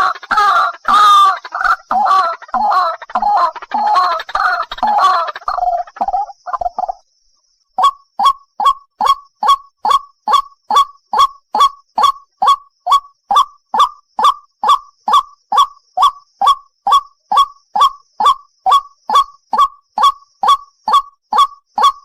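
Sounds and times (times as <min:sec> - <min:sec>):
waterhen calling harsh notes: 0:00.0 - 0:06.8, 0:07.8 - 0:22.0.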